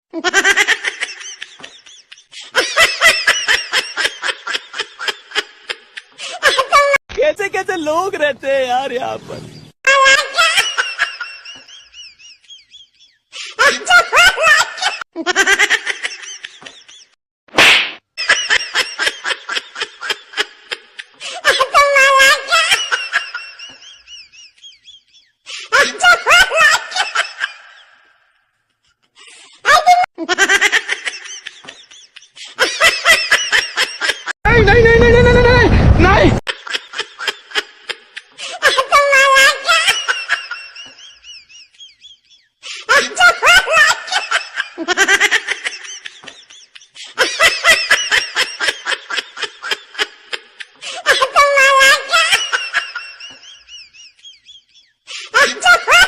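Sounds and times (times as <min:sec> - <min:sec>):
person laughing: 0:00.2 - 0:07.0, 0:10.1 - 0:17.1, 0:18.4 - 0:28.0, 0:29.3 - 0:34.4, 0:35.0 - 0:56.0.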